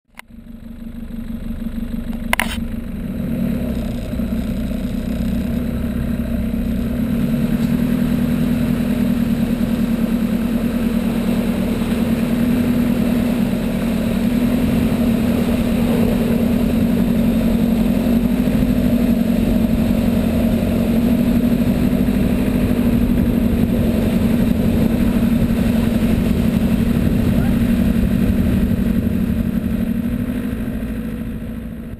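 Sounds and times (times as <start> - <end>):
car engine running under load: 0.1 - 31.9.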